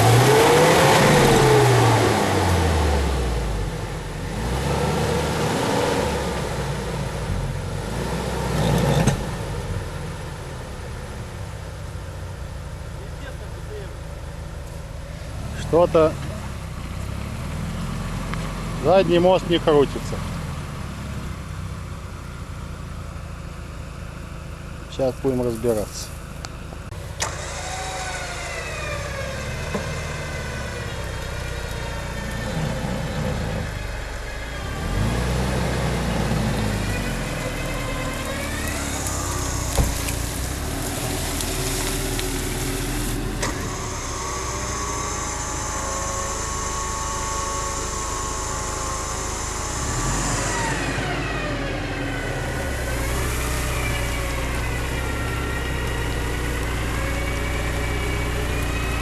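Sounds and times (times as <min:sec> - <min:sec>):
suv engine revving: 0:00.0 - 0:59.0.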